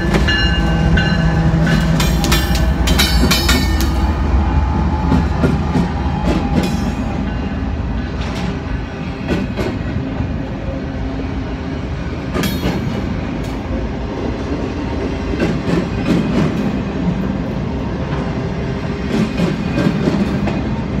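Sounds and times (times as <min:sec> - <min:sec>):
rail car clanks and clicks: 0:00.0 - 0:11.2, 0:11.8 - 0:21.0
steel wheels rolling on rail: 0:00.0 - 0:21.0.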